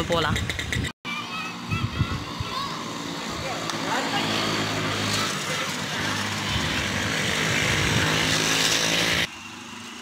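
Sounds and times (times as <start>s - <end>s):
small engine running: 1.4s - 10.0s.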